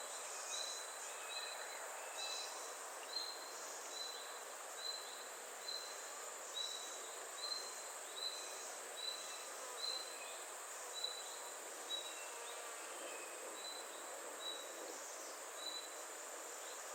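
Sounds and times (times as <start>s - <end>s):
high insect hiss: 0.0s - 16.9s.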